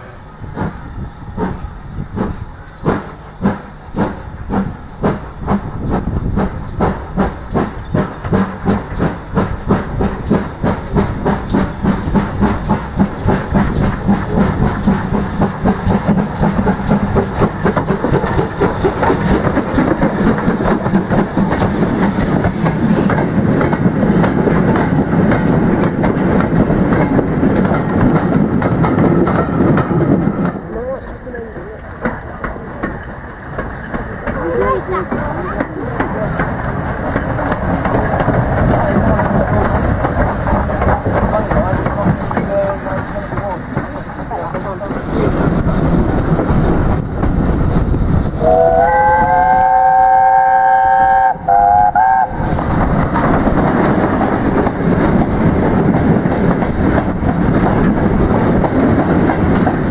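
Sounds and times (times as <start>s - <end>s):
steam locomotive exhaust beats: 0.0s - 59.9s
train wheels clattering over rail joints: 0.0s - 59.9s.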